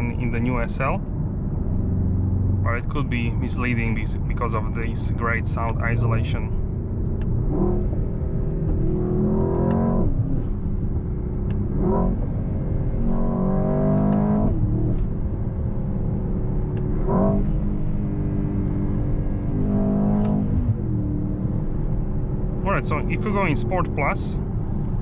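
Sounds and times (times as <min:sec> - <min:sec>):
car engine revving: 0:00.0 - 0:25.0
low road rumble: 0:00.0 - 0:25.0.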